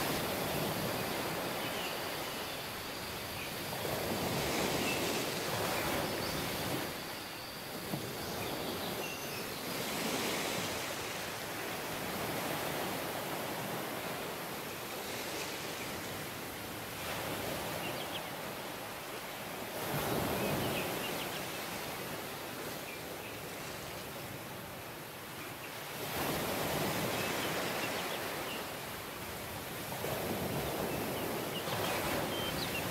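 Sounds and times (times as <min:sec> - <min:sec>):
ocean waves breaking on beach: 0:00.0 - 0:32.9.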